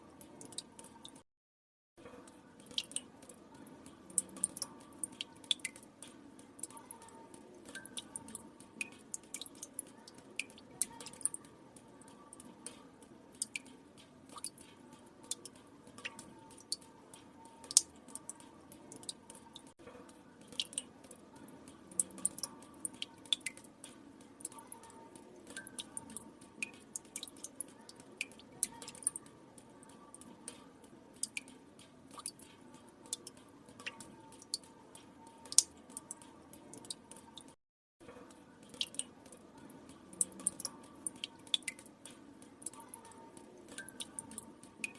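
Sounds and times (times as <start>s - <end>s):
water drops plinking into water: 2.2s - 44.9s.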